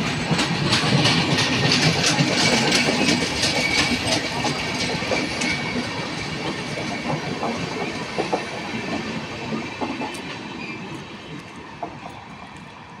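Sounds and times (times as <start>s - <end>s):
train wheels clattering over joints: 0.0s - 12.7s.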